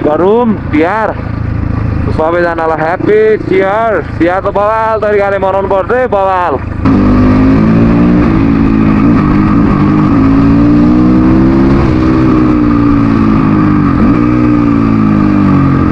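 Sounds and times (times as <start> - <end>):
dirt bike engine running: 0.0 - 15.9.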